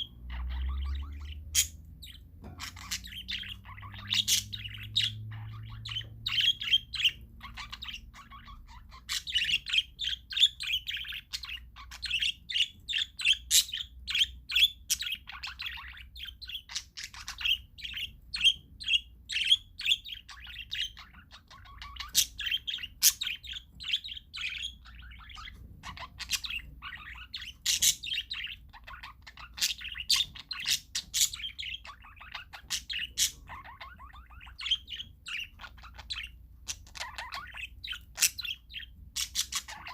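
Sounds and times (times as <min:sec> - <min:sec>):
parakeets chirping and chattering: 0:00.0 - 0:39.9.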